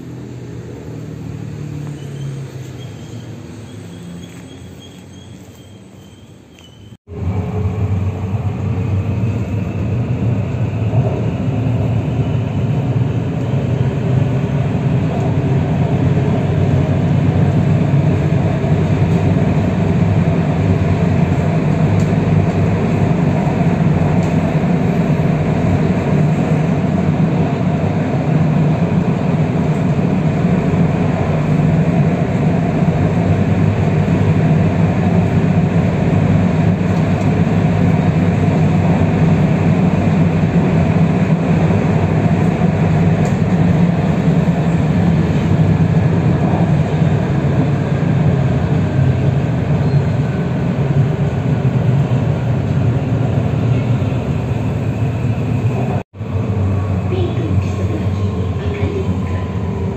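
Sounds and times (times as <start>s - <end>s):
train motor whine rising: 0.0s - 59.9s
train wheels rumbling on rail: 0.0s - 59.9s.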